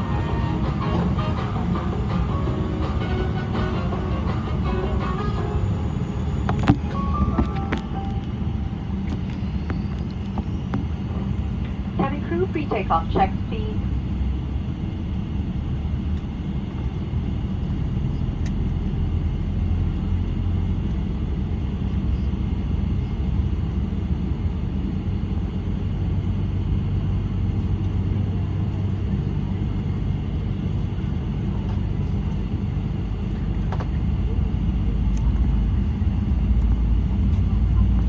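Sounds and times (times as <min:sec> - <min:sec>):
low rumble inside aircraft cabin: 0:00.0 - 0:38.0.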